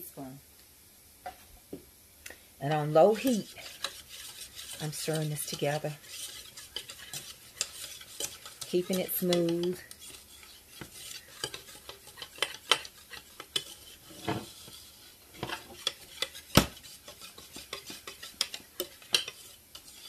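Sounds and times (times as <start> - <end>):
utensil scraping a saucepan: 2.6 - 20.0.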